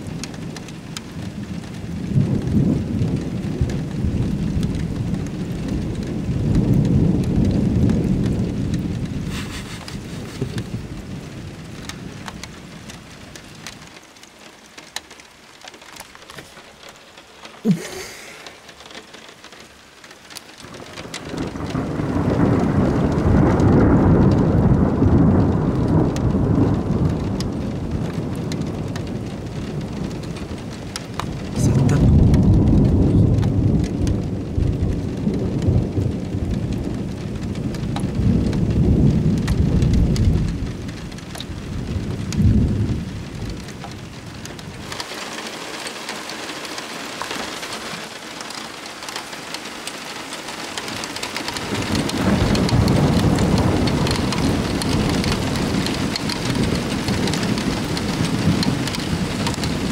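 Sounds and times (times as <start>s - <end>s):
thunder rumbling: 0.0s - 15.2s, 15.8s - 59.9s
heavy rain: 0.0s - 59.9s.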